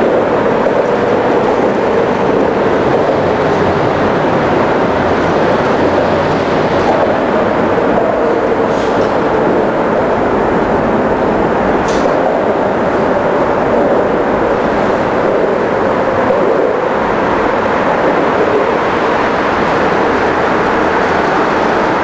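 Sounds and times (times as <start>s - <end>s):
loud traffic drone: 0.0s - 22.0s.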